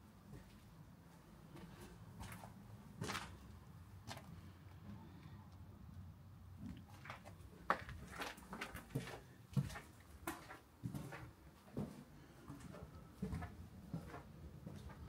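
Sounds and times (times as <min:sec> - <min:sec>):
footsteps walking: 0:00.3 - 0:04.3, 0:06.6 - 0:15.0.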